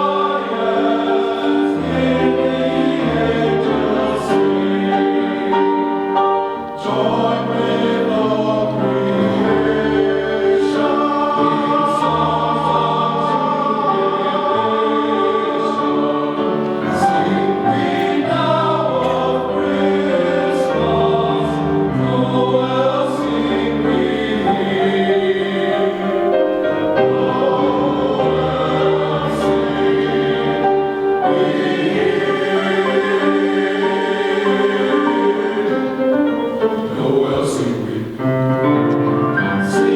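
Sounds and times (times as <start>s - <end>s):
men's chorus singing: 0.0s - 39.9s.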